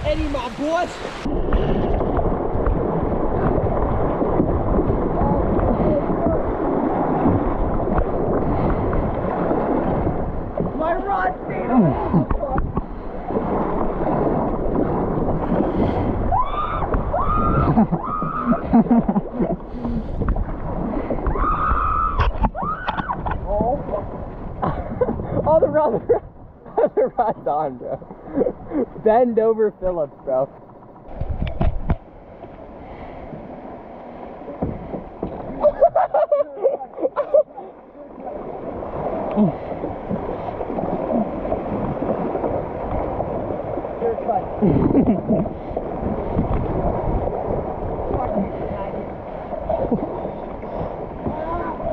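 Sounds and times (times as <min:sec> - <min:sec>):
wind buffeting microphone: 0:00.0 - 0:27.3, 0:30.6 - 0:51.9
water gurgling and splashing: 0:00.0 - 0:51.9.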